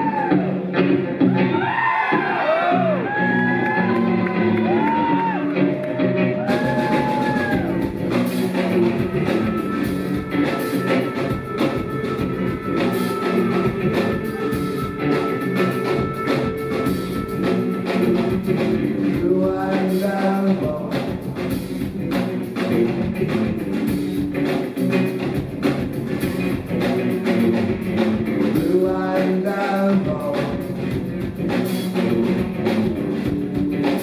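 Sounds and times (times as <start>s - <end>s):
rock band playing live: 0.0s - 34.0s
drum kit beat: 6.4s - 34.0s.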